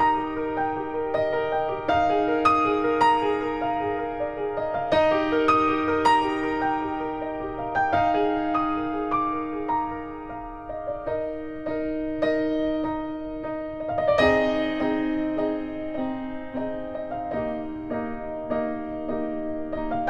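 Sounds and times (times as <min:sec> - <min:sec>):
soft slow piano melody: 0:00.0 - 0:20.0.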